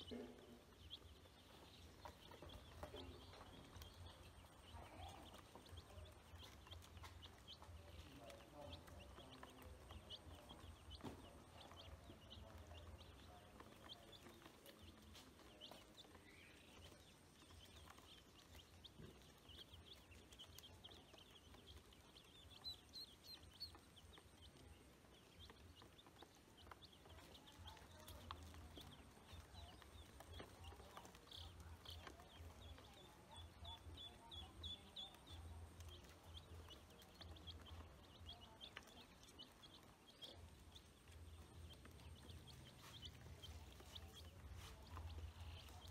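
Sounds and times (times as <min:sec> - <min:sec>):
chicks and ducklings peeping: 0:00.0 - 0:45.9.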